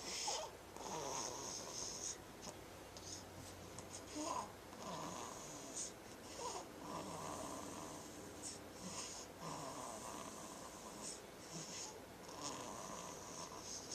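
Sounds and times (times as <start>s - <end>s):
baby snoring: 0.0s - 2.2s, 4.0s - 13.9s.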